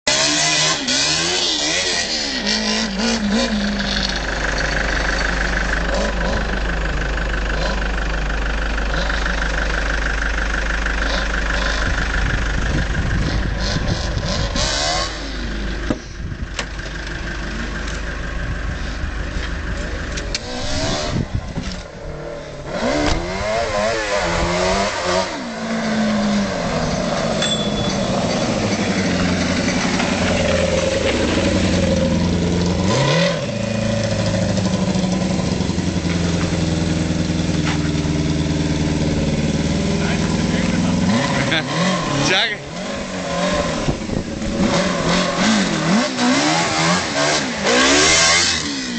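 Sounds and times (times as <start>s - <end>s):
vehicle engine revving: 0.0s - 48.9s.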